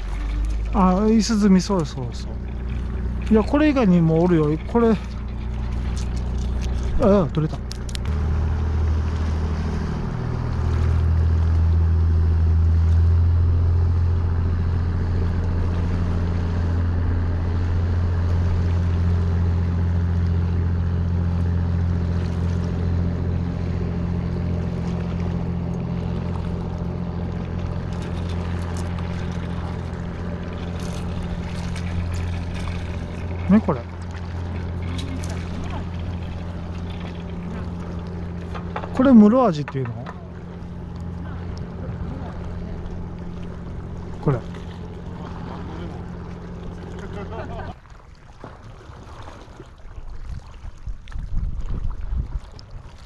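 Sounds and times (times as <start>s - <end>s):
motorboat engine droning: 0.0s - 53.0s.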